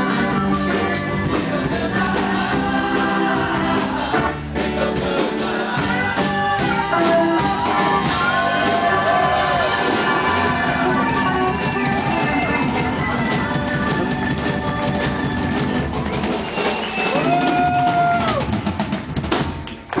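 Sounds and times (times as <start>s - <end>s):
band playing: 0.0s - 20.0s
drum kit keeping time: 0.0s - 20.0s.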